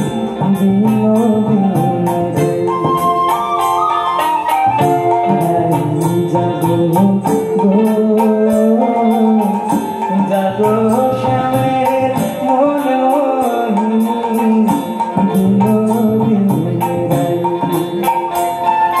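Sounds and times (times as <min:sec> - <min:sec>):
man singing into microphone: 0:00.0 - 0:19.0
steady drum beat: 0:00.0 - 0:19.0.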